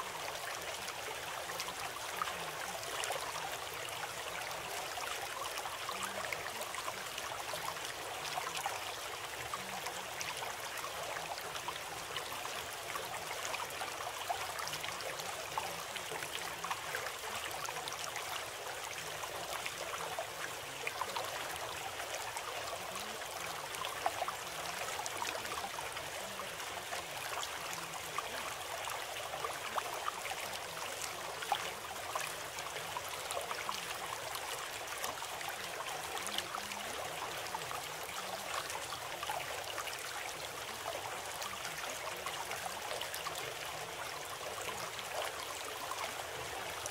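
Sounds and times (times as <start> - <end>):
stream babbling: 0.0 - 46.9.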